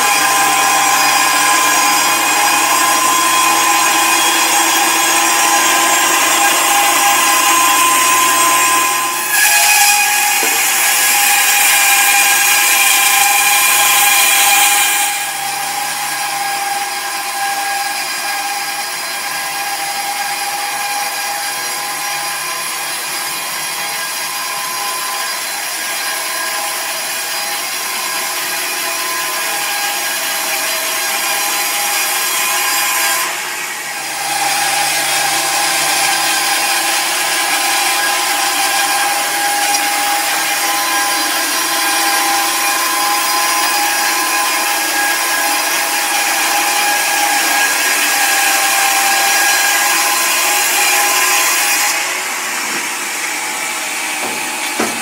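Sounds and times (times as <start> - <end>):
band sawmill cutting log: 0.0 - 55.0.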